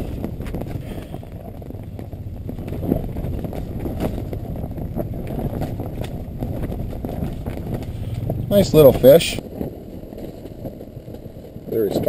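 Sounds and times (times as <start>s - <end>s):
wind buffeting fabric shack: 0.0s - 12.0s.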